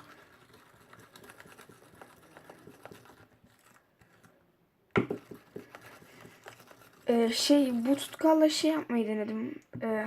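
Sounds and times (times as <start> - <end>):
spoon stirring slime in a bowl: 0.0 - 9.2.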